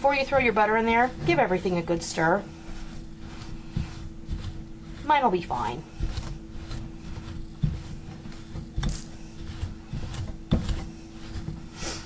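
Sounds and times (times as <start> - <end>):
pastry blender scraping glass bowl: 0.0 - 12.0.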